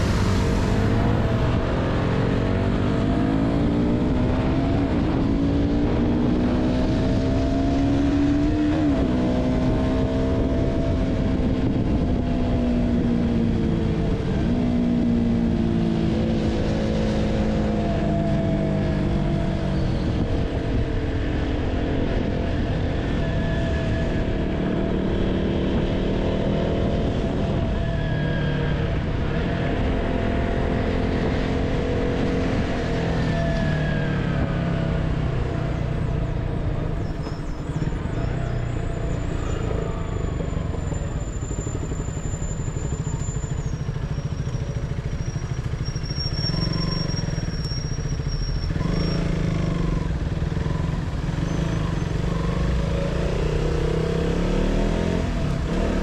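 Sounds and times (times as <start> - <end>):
motorcycle engine accelerating: 0.0 - 56.0
wind and road noise: 0.0 - 56.0.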